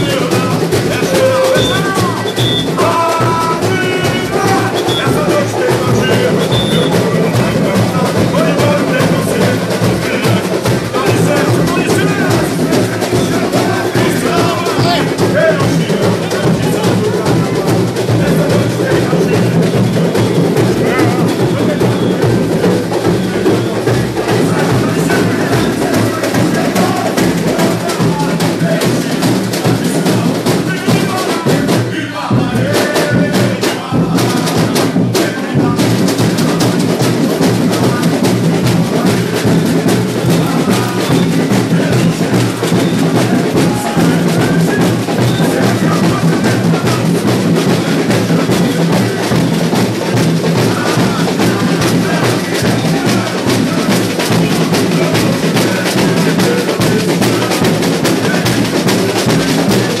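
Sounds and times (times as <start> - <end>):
samba drum section playing: 0.0 - 60.0.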